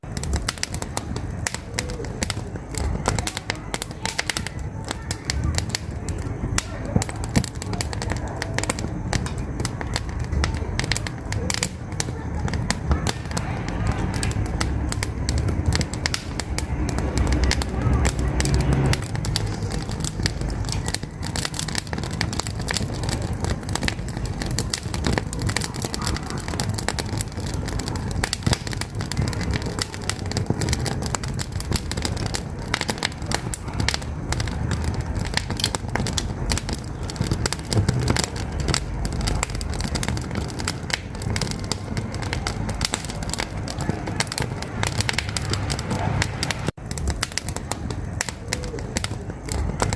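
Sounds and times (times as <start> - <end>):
low rumble of flames: 0.0 - 49.9
wood fire crackling: 0.0 - 49.9.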